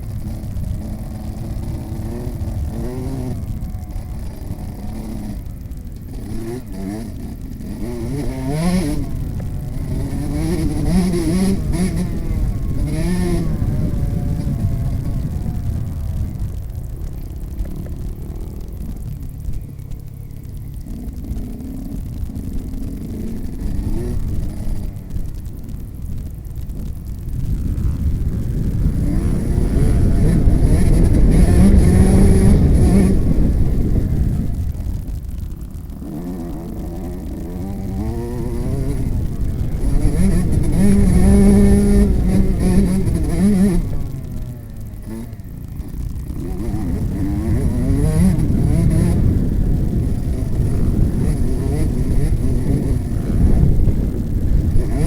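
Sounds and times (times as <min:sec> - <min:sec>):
motocross bike engine revving: 0:00.0 - 0:55.0
wind rush on microphone: 0:00.0 - 0:55.0.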